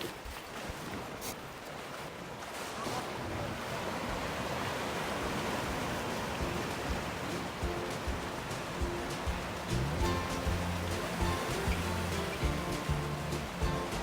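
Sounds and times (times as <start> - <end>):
sea waves on rocky shore: 0.0 - 14.0.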